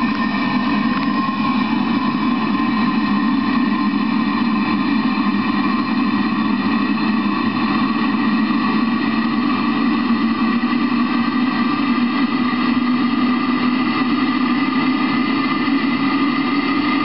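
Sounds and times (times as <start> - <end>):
diesel heater rumbling: 0.0 - 17.0
steady whine: 0.0 - 17.0.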